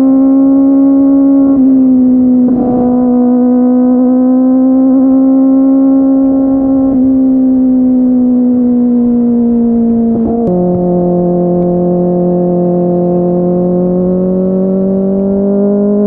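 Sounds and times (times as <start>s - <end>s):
motorcycle engine high revs: 0.0s - 16.0s.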